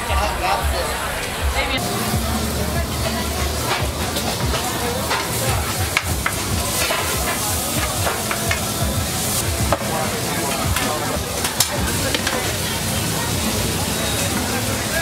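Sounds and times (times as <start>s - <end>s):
meat sizzling on a grill: 1.8s - 15.0s.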